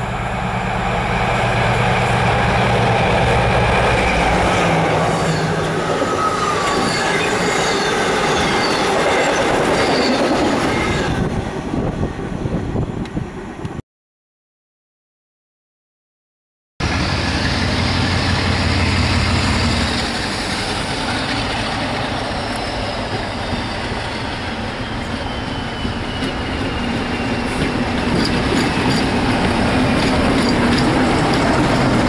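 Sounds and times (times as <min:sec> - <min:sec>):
diesel locomotive engine passing: 0:00.0 - 0:13.8, 0:16.8 - 0:32.0.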